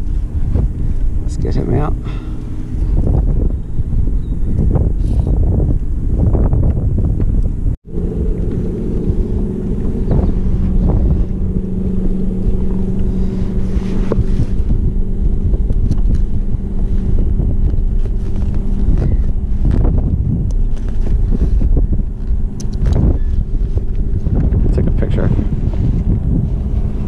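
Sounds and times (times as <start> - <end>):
low boat engine hum: 0.0 - 27.0
wind buffeting microphone: 0.0 - 27.0.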